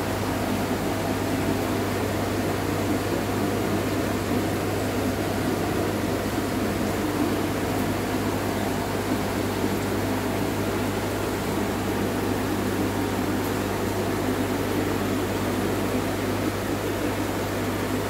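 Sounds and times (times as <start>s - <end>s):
aquarium air pumps humming: 0.0s - 18.0s.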